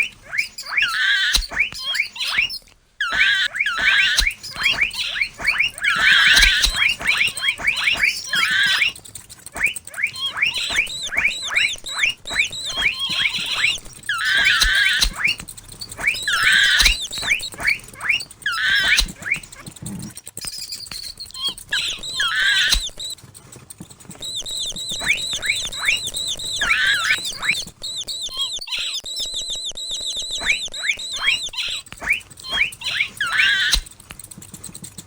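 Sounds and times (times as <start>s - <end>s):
mouse squeaking: 0.0s - 35.0s.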